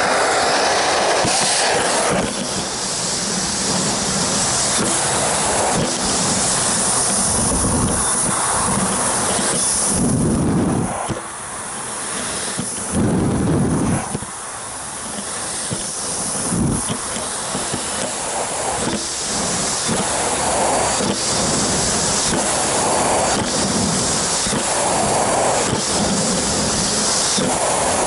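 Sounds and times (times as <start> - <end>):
vacuum cleaner suction: 0.0 - 28.0.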